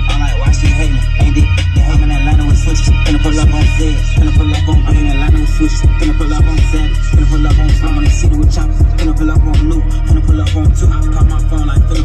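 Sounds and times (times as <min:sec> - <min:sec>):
deep bass hits: 0:00.0 - 0:12.0
hip-hop track with rapping: 0:00.0 - 0:12.0.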